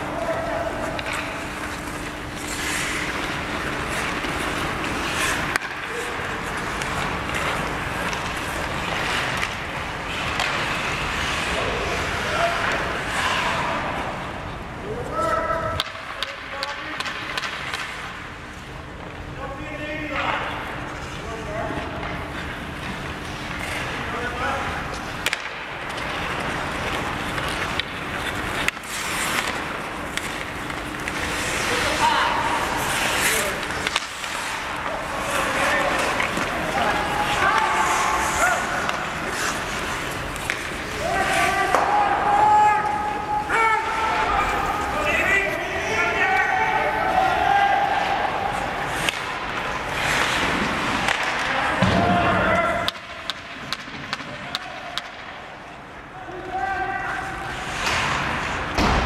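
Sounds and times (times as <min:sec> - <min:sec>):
arena noise: 0:00.0 - 0:59.0
hockey sticks and puck clacking: 0:00.0 - 0:59.0
skates scraping on ice: 0:00.0 - 0:59.0.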